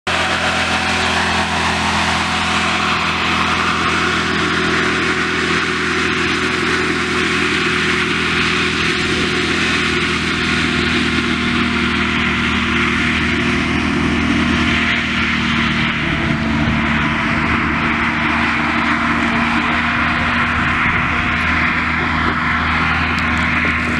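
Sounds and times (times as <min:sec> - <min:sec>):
hovercraft engine drone: 0:00.0 - 0:23.9.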